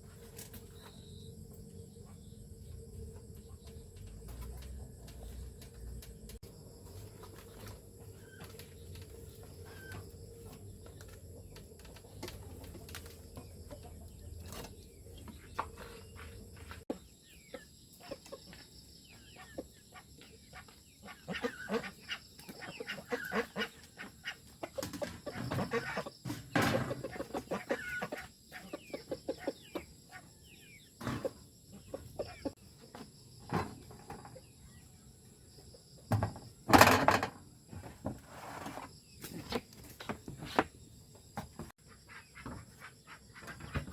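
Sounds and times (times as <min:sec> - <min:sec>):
chickens clucking: 0:00.1 - 0:34.6, 0:41.8 - 0:43.9.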